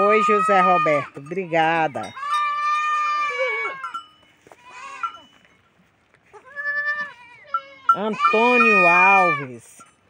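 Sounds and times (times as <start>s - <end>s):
goats bleating: 0.0s - 5.4s, 6.3s - 9.6s.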